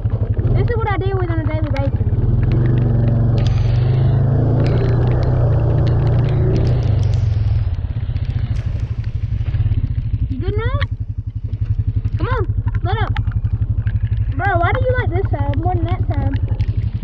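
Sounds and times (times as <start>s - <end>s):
off-road vehicle engine under load: 0.0s - 17.0s
sharp ticks: 0.0s - 17.0s.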